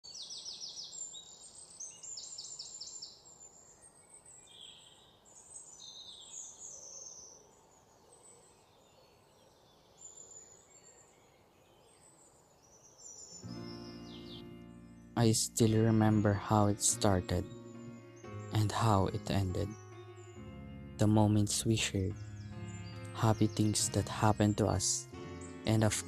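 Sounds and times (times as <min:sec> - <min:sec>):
birds chirping and trilling: 0:00.0 - 0:26.0.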